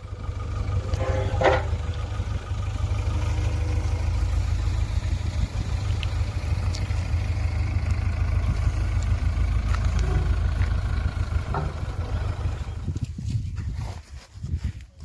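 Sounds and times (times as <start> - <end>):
diesel engine rumbling: 0.0 - 13.6.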